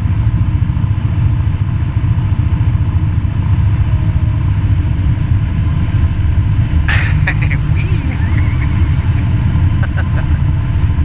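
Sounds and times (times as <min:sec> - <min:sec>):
airplane engine drone in cabin: 0:00.0 - 0:11.0.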